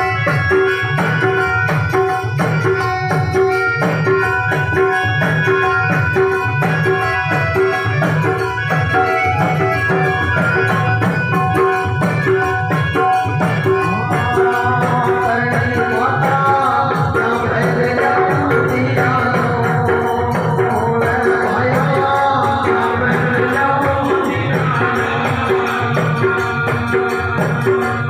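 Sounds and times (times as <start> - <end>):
hand drum beat: 0.0 - 28.0.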